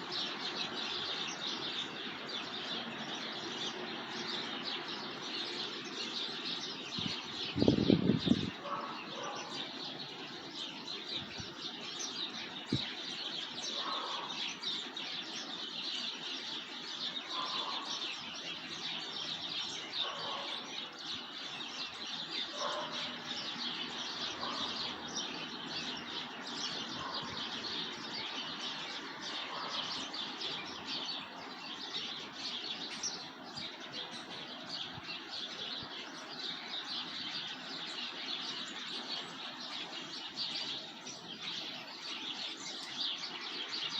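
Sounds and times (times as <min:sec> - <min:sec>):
songbirds chirping in chorus: 0:00.0 - 0:43.9.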